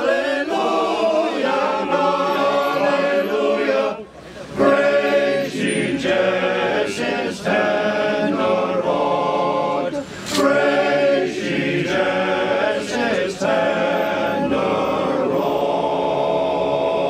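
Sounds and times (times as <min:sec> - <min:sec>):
group singing a carol: 0:00.0 - 0:17.0.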